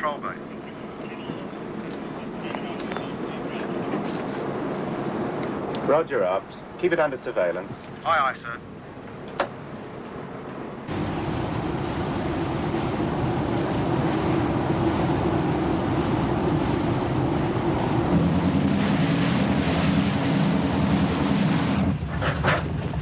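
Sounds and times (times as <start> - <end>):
boat engine hum: 0.0 - 23.0
rush of wind and water: 0.0 - 23.0.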